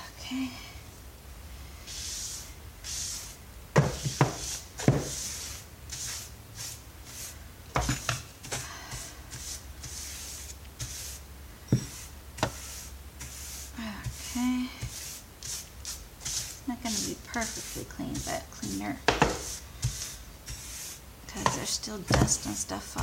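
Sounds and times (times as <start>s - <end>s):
brush sweeping debris: 1.8s - 23.0s.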